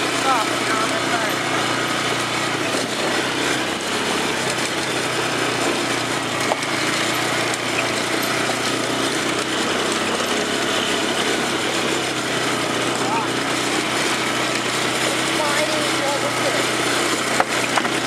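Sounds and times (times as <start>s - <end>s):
quad engine running: 0.0s - 18.0s.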